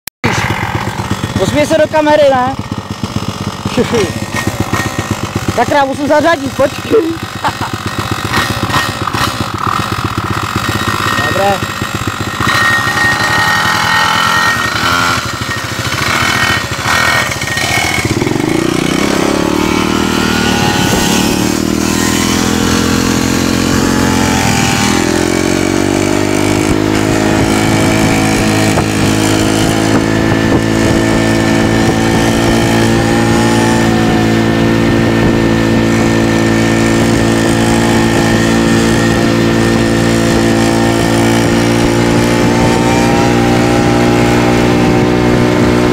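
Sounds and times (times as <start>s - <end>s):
small motorcycle engine pulling away: 0.2s - 45.9s.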